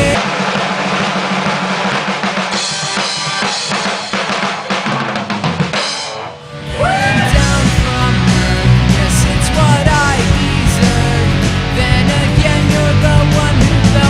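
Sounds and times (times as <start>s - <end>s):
bass guitar: 0.0s - 14.0s
electric guitar with bent notes: 0.0s - 14.0s
rock drum kit: 0.0s - 14.0s.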